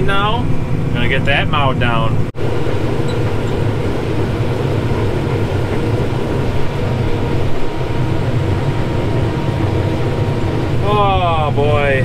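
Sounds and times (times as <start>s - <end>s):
faint constant whine: 0.0s - 12.0s
harvester engine drone: 0.0s - 12.0s.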